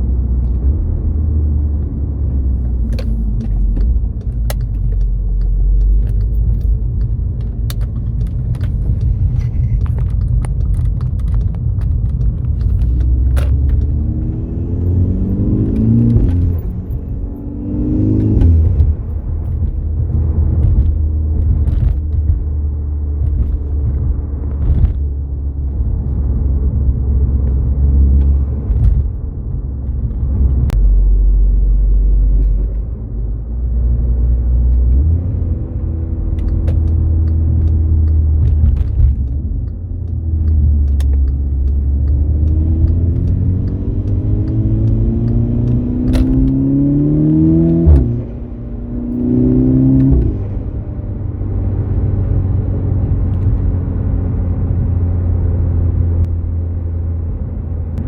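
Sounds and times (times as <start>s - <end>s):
car engine droning while driving: 0.0s - 58.0s.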